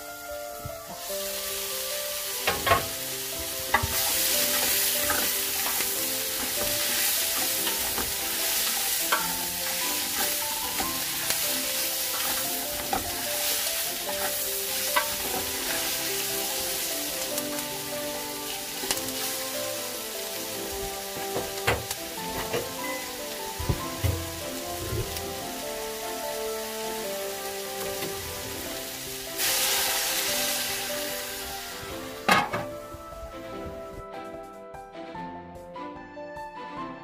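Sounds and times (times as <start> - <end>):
food sizzling in a pot: 0.0 - 33.8.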